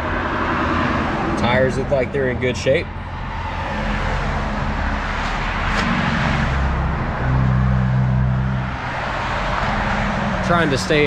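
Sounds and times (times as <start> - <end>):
heavy vehicle passing: 0.0 - 11.0
road traffic passing: 0.0 - 11.0.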